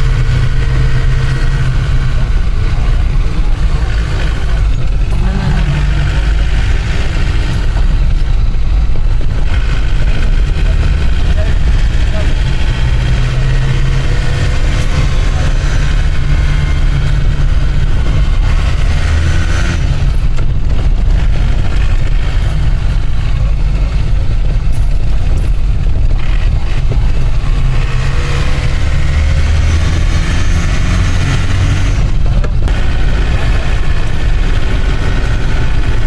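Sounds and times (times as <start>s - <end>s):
low engine hum: 0.0s - 36.0s
tyre and road rumble: 0.0s - 36.0s.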